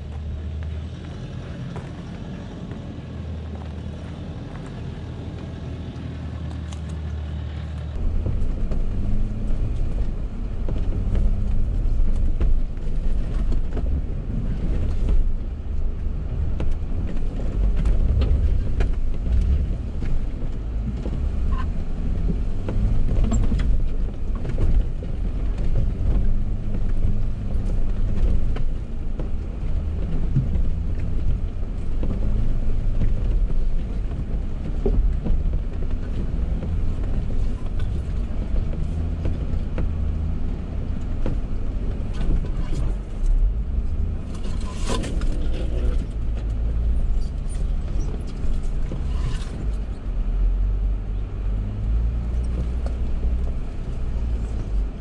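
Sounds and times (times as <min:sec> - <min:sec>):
engine labouring rough rumble: 0:00.0 - 0:55.0.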